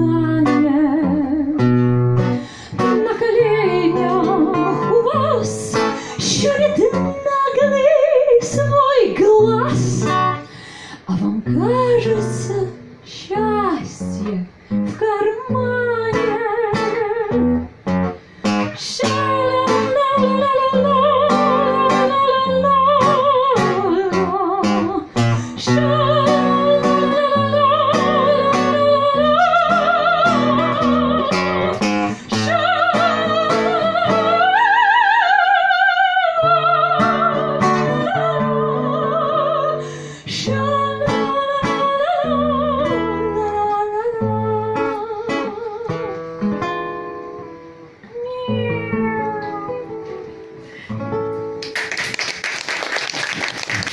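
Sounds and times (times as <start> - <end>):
woman singing operatically: 0.0 - 1.7, 2.8 - 10.4, 11.0 - 17.6, 18.8 - 46.1, 48.1 - 50.2
acoustic guitar accompaniment: 0.0 - 53.9.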